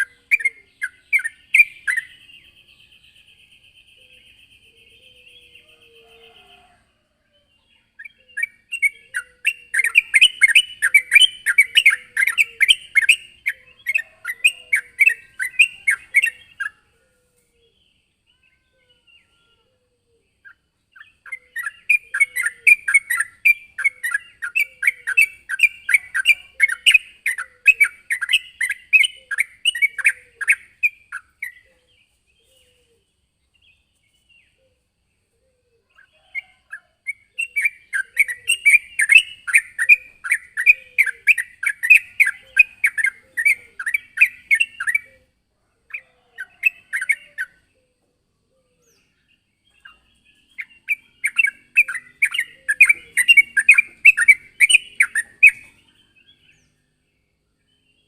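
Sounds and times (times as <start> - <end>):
bulbul singing: 0.0 - 6.9, 7.5 - 16.9, 20.1 - 58.0.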